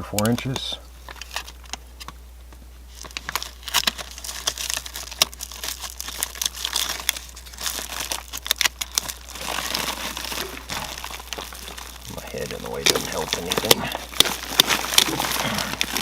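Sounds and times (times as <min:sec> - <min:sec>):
foil tape crinkling: 0:00.0 - 0:16.0.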